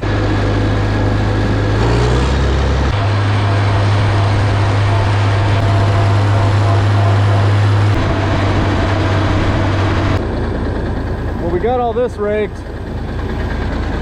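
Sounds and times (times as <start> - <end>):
tractor engine droning: 0.0 - 14.0.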